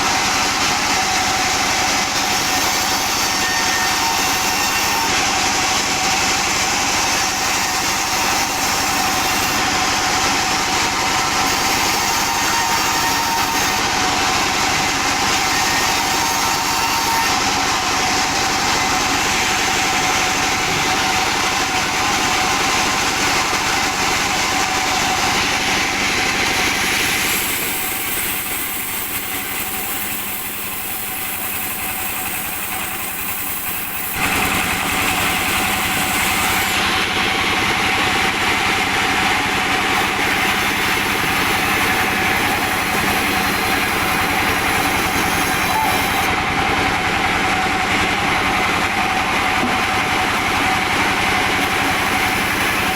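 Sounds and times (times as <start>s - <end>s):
sawmill machinery sawing logs: 0.0s - 52.9s.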